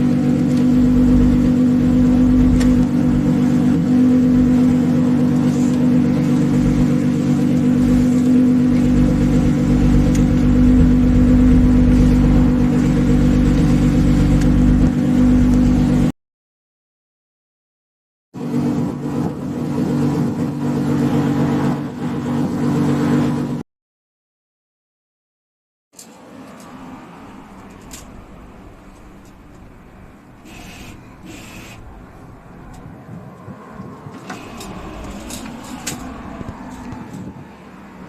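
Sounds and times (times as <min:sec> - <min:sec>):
car engine humming: 0:00.0 - 0:16.1, 0:18.4 - 0:23.6, 0:26.0 - 0:38.0.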